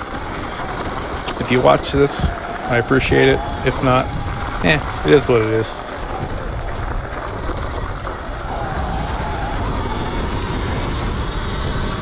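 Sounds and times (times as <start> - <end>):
wind and ground noise: 0.0 - 12.0.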